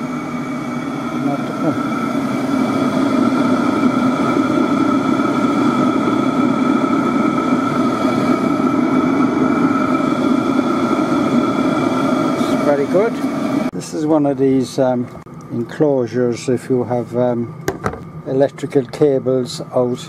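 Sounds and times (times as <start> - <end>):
heater fan humming: 0.0 - 20.0.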